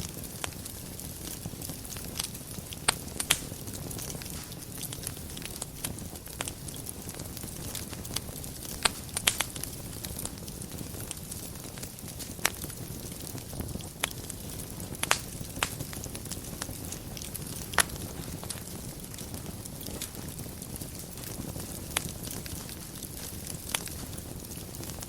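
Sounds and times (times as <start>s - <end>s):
fire pops and snaps: 0.0s - 25.0s
low rumble of flames: 0.0s - 25.0s.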